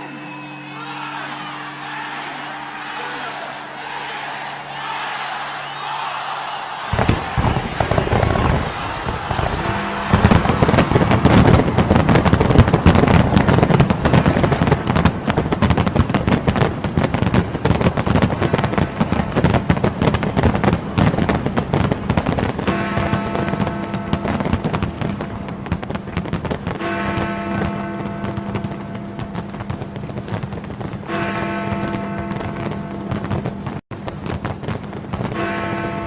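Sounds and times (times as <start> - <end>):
fireworks bangs and crackles: 6.9 - 36.0.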